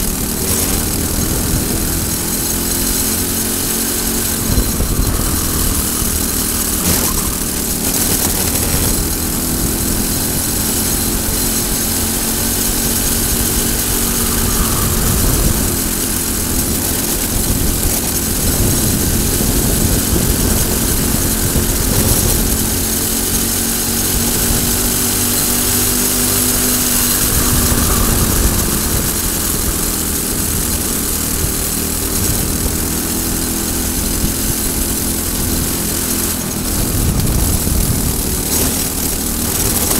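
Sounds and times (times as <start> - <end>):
kart engine running hard: 0.0 - 39.9
wind rushing over microphone: 0.0 - 39.9.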